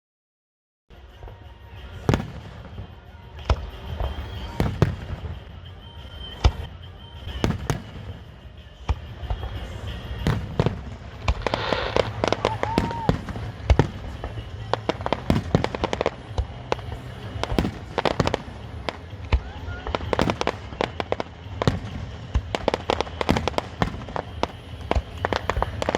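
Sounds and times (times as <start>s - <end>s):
fireworks bangs and cracks: 0.9s - 25.9s.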